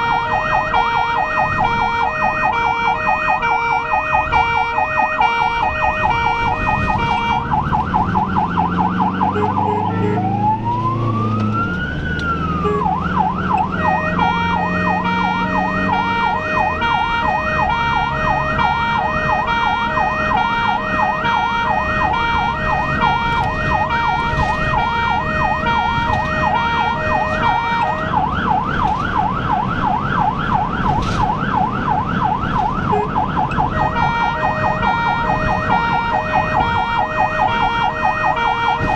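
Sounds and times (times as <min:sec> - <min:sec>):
ambulance siren: 0:00.0 - 0:38.9
engine and road noise: 0:00.0 - 0:38.9.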